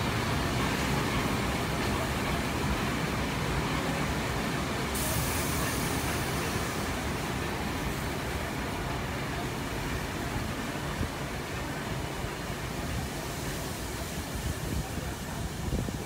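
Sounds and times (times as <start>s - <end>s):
high hiss: 0.0s - 16.0s
train wheels rumbling on rails: 0.0s - 16.0s.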